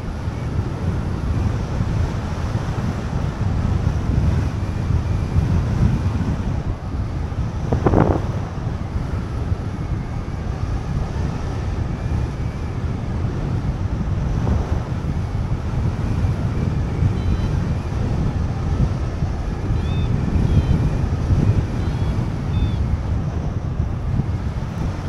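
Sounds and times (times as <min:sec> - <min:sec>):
wind rushing across microphone: 0:00.0 - 0:25.0.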